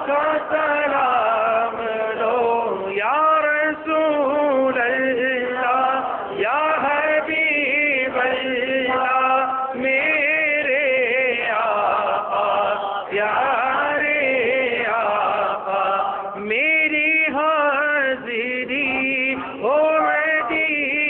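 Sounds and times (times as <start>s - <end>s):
man chanting devotional poem: 0.0s - 21.0s.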